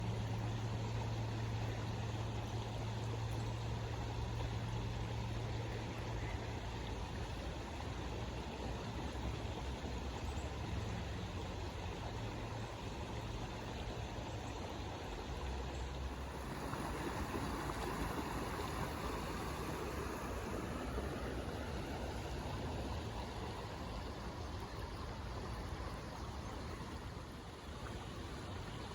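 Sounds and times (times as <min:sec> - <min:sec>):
floodwater rushing: 0:00.0 - 0:28.9.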